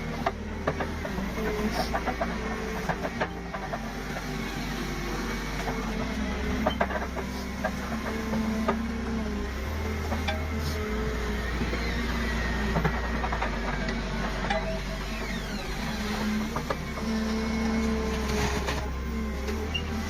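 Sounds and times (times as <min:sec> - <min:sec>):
machinery humming: 0:00.0 - 0:20.0
pitched whining tones: 0:00.0 - 0:20.0.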